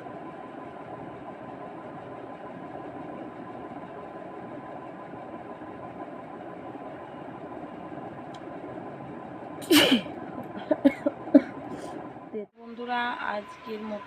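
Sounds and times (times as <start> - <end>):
steady background hum with whine: 0.0 - 14.0.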